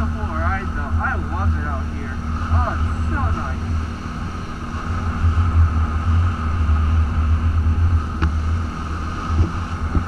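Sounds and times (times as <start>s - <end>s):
atv engine rumbling: 0.0s - 10.0s.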